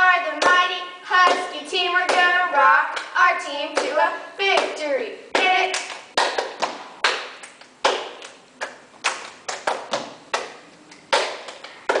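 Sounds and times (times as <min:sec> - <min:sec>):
rhythmic hand claps echoing: 0:00.0 - 0:12.0.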